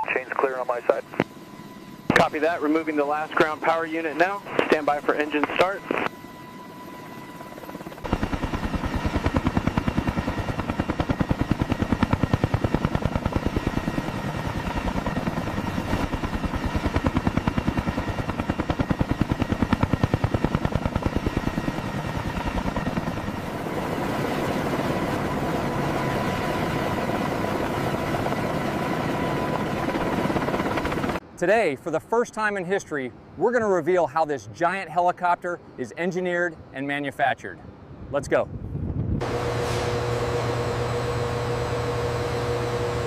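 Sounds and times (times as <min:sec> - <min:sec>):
helicopter rotor chop: 0:00.0 - 0:31.2, 0:39.0 - 0:43.0
helicopter turbine whine: 0:00.0 - 0:43.0.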